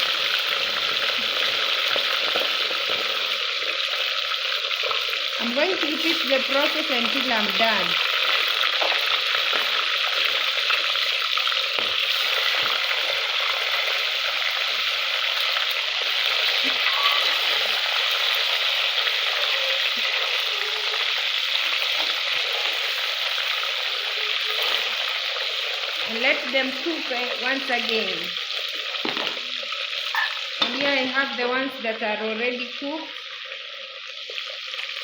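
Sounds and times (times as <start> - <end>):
fish deep-frying in oil: 0.0 - 35.0.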